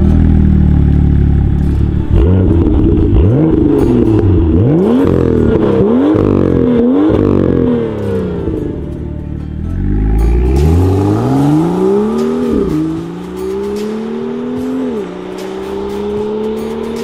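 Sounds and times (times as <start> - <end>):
car engine revving: 0.0 - 9.0, 9.6 - 17.0.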